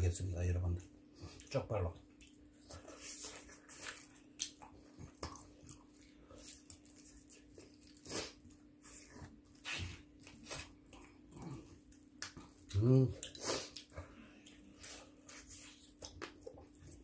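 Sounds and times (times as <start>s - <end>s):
people chewing and lip smacking: 0.8s - 17.0s.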